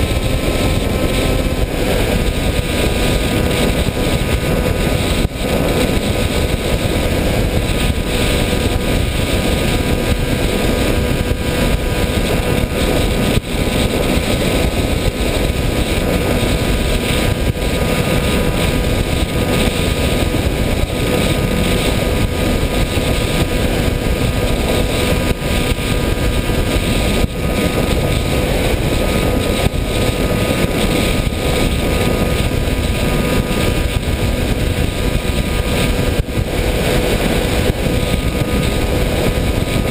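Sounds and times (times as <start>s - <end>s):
model aircraft motor whine: 0.0s - 39.9s
rush of air noise: 0.0s - 39.9s.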